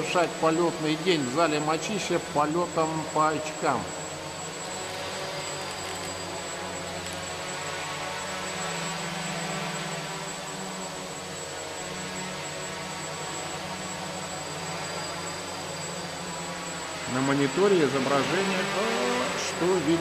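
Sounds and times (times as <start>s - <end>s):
quadcopter propellers buzzing: 0.0s - 20.0s.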